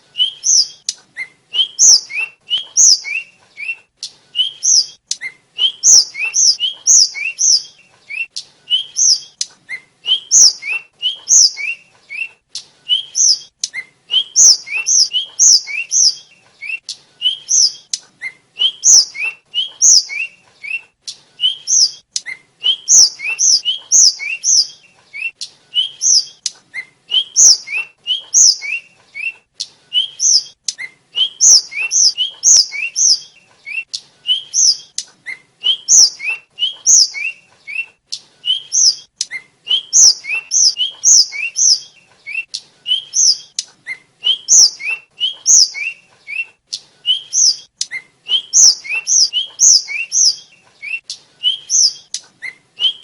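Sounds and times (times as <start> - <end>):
bird singing whistled notes: 0.1 - 53.0.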